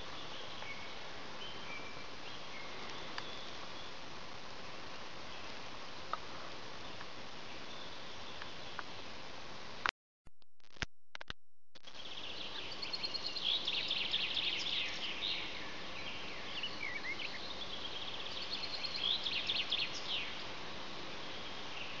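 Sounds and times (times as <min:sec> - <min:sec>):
songbird chirping: 0:00.0 - 0:09.0, 0:11.9 - 0:22.0
background hiss: 0:00.0 - 0:09.9, 0:11.8 - 0:22.0.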